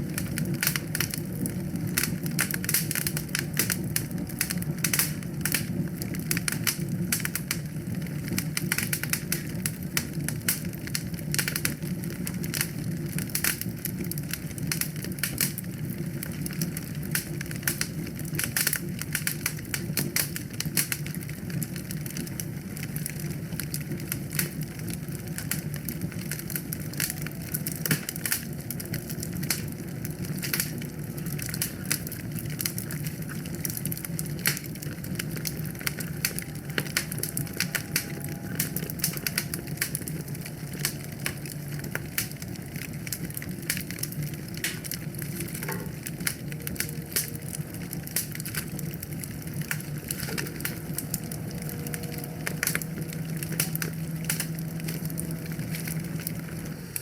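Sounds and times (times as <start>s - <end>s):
fire low rumble: 0.0s - 57.0s
wood fire crackling: 0.0s - 57.0s.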